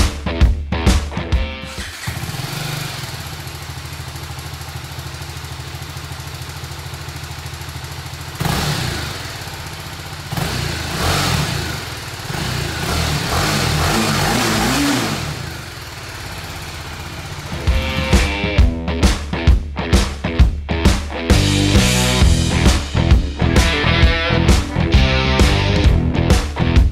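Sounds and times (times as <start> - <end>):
motorcycle engine idling and revving: 1.6 - 19.5, 21.3 - 26.9.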